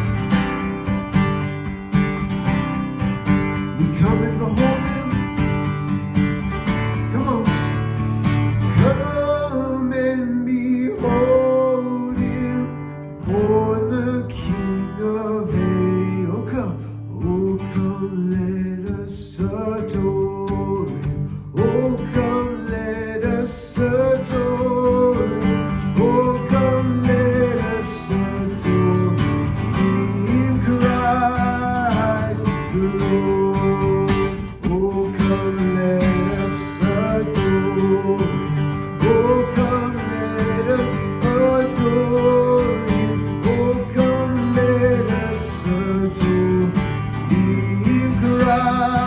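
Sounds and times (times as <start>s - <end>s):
strummed acoustic guitar: 0.0s - 49.0s.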